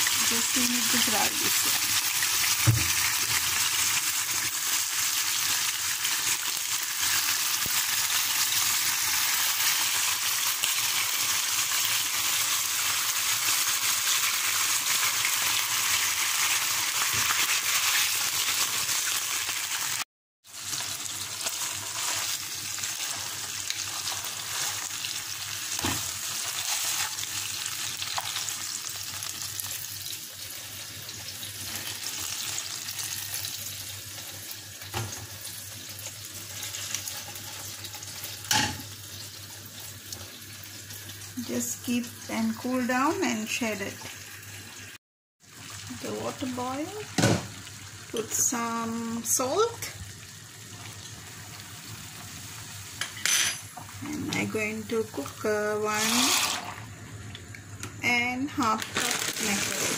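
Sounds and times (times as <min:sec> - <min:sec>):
chicken sizzling in oil: 0:00.0 - 0:59.9.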